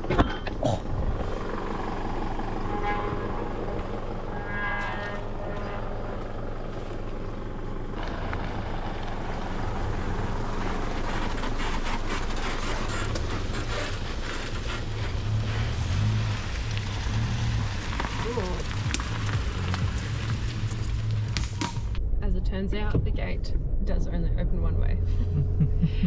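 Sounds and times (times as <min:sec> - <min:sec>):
crackling road noise: 0:00.0 - 0:23.7
vehicle engine and road rumble: 0:00.0 - 0:26.0.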